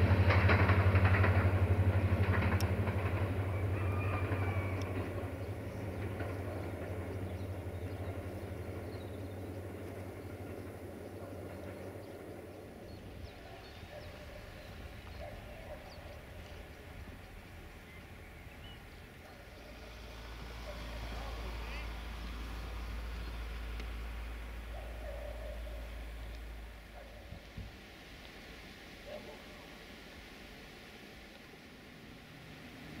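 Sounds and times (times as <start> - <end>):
diesel train engine rumble: 0.0 - 33.0
faint outdoor ambience: 0.0 - 33.0.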